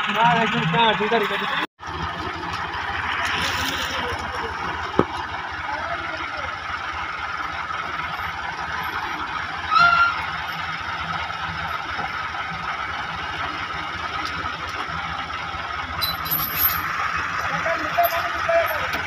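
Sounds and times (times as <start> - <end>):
tractor engines idling: 0.0 - 19.0.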